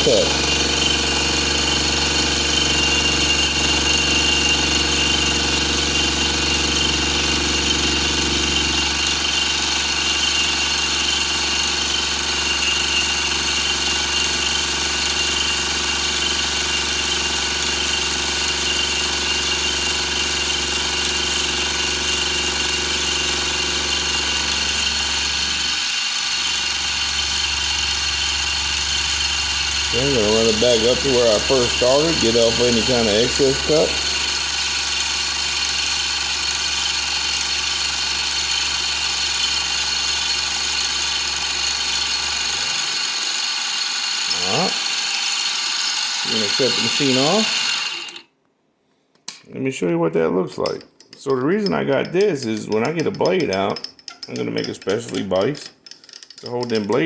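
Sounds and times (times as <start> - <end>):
milling machine cutting metal: 0.0 - 48.3, 52.0 - 57.0.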